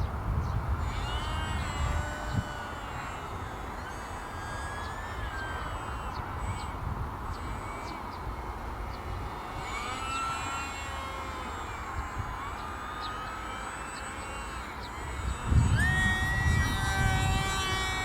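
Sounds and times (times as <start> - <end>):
model plane motor whining: 0.0 - 18.0.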